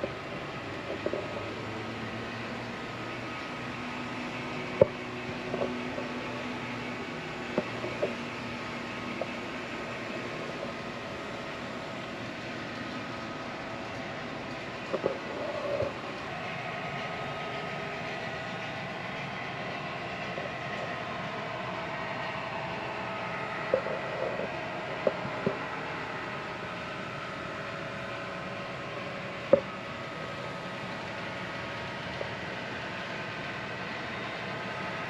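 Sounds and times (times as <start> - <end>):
model train whirring hum: 0.0 - 35.0.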